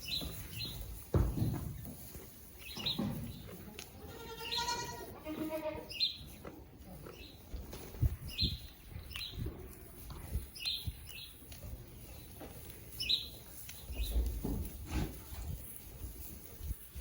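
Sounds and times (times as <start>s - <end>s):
songbird chirping: 0.0s - 14.6s.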